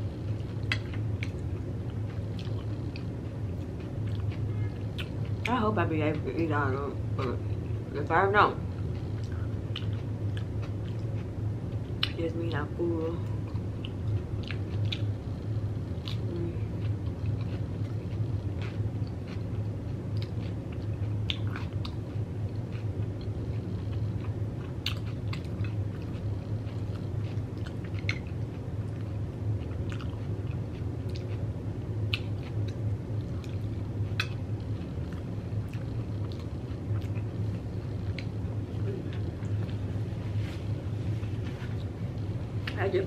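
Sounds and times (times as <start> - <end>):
low hum: 0.0 - 43.0
crunchy chewing: 0.1 - 5.5, 8.7 - 12.2, 13.4 - 42.8.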